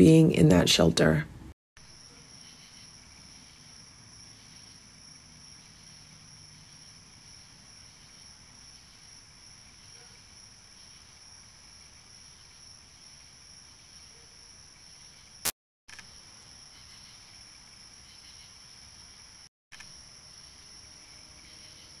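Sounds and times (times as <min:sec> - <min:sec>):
crickets chirring: 0:01.8 - 0:22.0.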